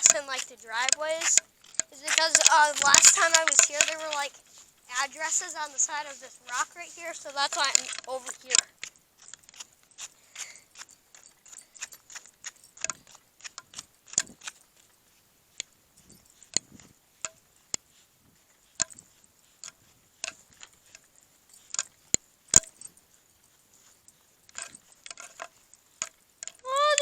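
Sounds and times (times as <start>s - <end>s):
sharp clicks and light taps: 0.0s - 15.0s, 18.7s - 23.0s, 23.7s - 27.0s.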